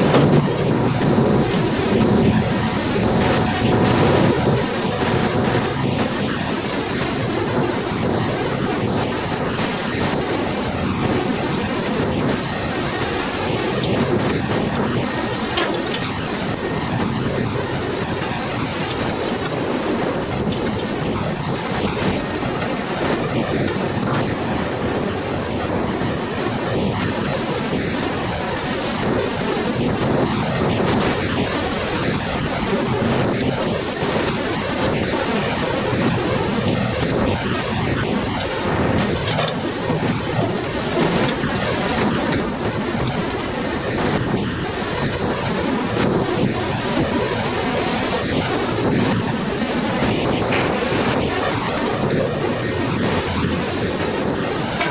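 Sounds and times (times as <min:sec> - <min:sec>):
hydraulic crane droning: 0:00.0 - 0:54.9.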